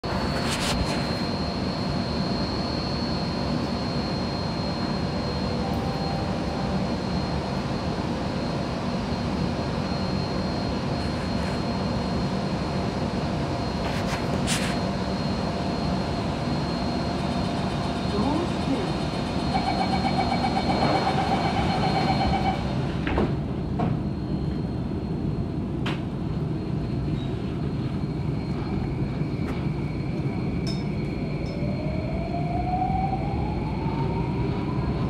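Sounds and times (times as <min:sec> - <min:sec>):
thin high whine: 0:00.0 - 0:22.8, 0:26.6 - 0:33.2
metro train hum: 0:00.0 - 0:35.0.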